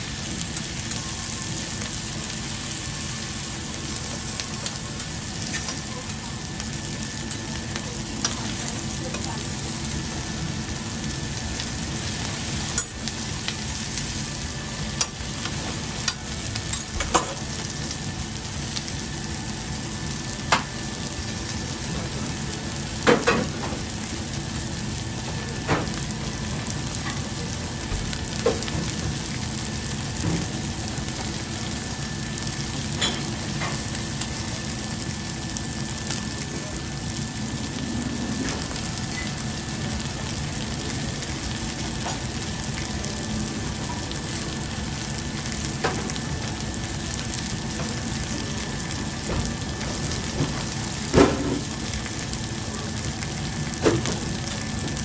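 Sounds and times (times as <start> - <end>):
meat and vegetables sizzling: 0.0 - 55.0.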